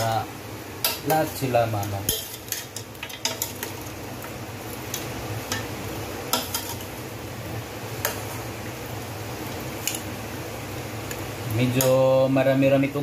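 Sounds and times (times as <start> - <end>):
pork sizzling: 0.0 - 13.0.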